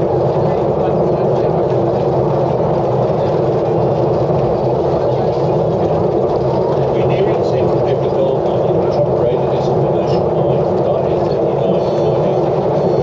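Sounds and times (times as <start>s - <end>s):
tram running on track: 0.0s - 13.0s.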